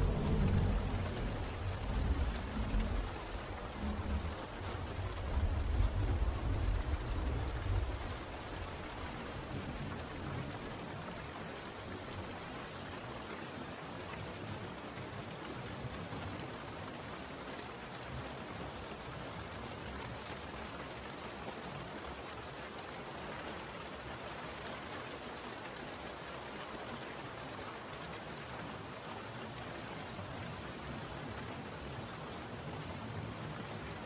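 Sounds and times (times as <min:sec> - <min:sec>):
raindrops pattering on surface: 0:00.0 - 0:34.0
steady rain: 0:00.0 - 0:34.0.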